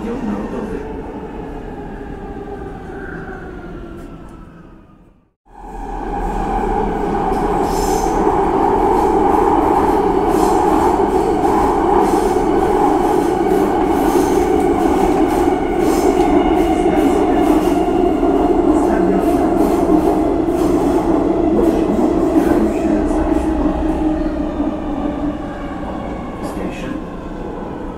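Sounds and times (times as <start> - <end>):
subway train rumbling on tracks: 0.0 - 27.9.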